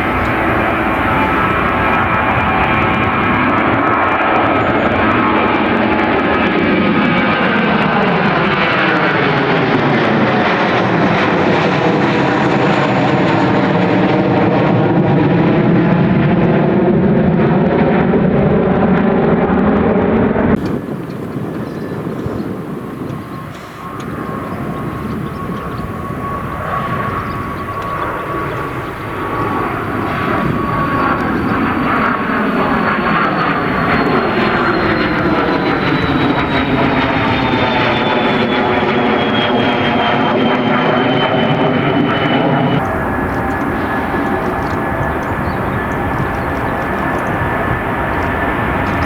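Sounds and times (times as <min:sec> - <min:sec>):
jet engines whining: 0:00.0 - 0:16.8, 0:17.7 - 0:49.0.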